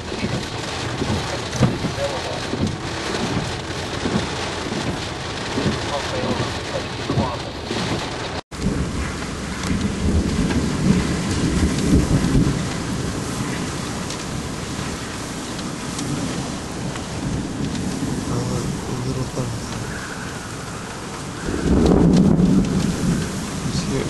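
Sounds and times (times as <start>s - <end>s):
heavy rain pouring: 0.0s - 24.0s
low thunder rumbling: 0.0s - 24.0s.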